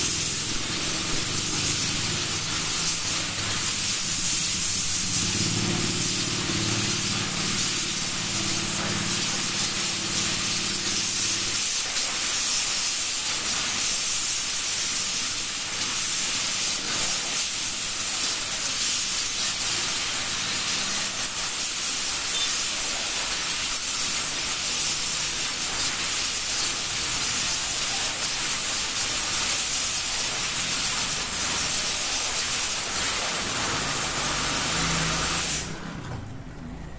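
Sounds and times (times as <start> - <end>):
spraying water hiss: 0.0 - 36.0.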